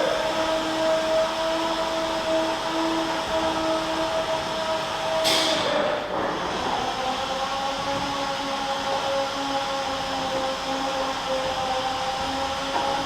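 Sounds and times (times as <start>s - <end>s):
milking machinery humming: 0.0s - 13.0s.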